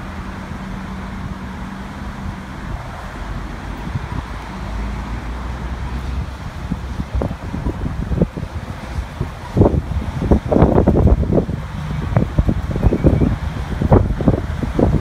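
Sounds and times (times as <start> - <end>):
bus engine running: 0.0 - 15.0
wind buffeting microphone: 0.0 - 15.0.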